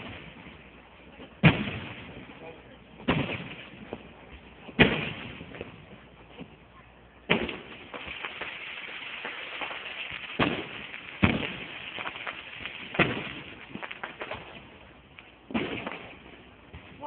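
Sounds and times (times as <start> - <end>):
crackling hiss: 0.0 - 17.0
fireworks bangs: 0.0 - 17.0.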